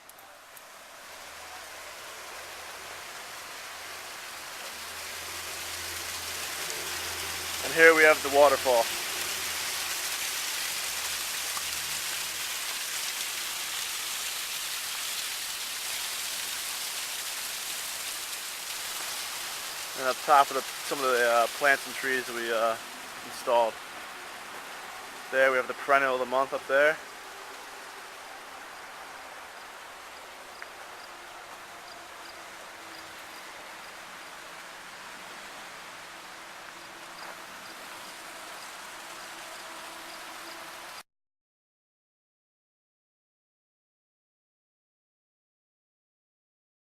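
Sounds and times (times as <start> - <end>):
water splashing down waterfall: 0.0 - 41.0.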